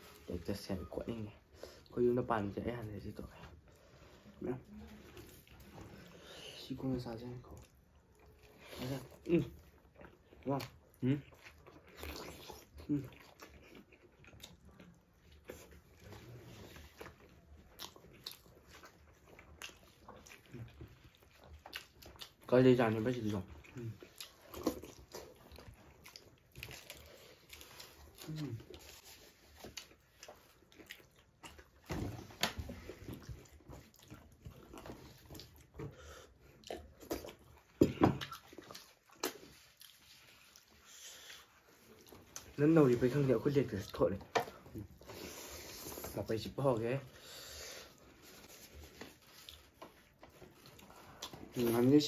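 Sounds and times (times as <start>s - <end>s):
people chewing chicken: 0.0s - 52.0s.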